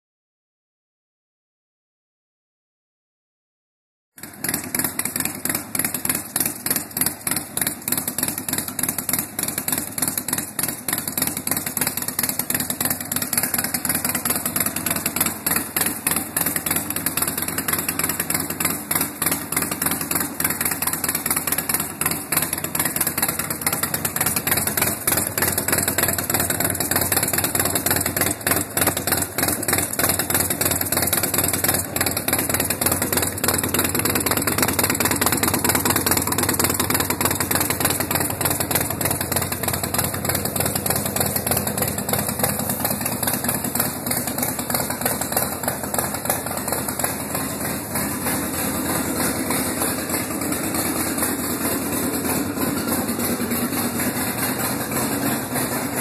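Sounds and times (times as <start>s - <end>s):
motorcycle engine idling: 4.2s - 56.0s.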